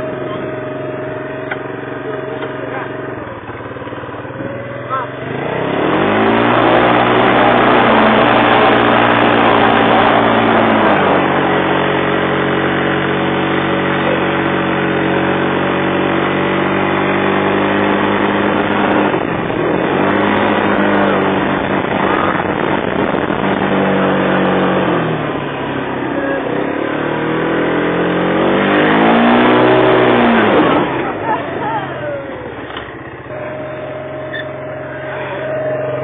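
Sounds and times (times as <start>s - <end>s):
quad bike engine revving: 0.0s - 36.0s.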